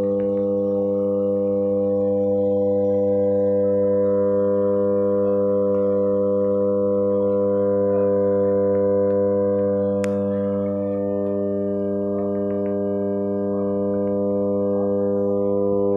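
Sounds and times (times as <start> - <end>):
power transformer humming: 0.0 - 15.9.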